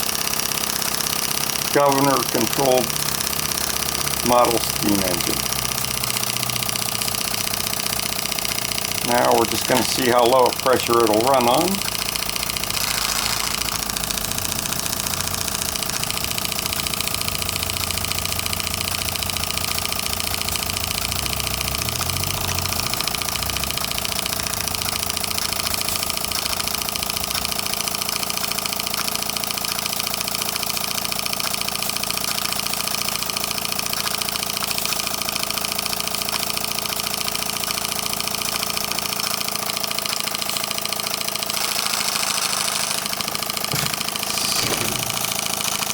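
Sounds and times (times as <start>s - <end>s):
model steam engine running: 0.0s - 45.9s.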